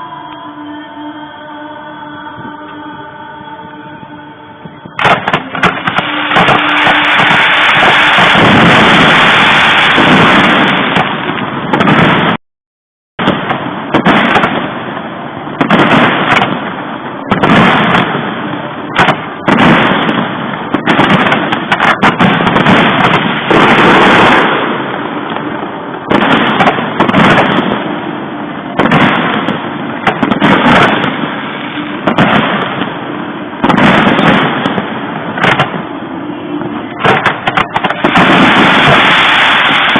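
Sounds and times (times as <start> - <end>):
fireworks bursting and crackling: 5.0 - 12.4, 13.2 - 39.9.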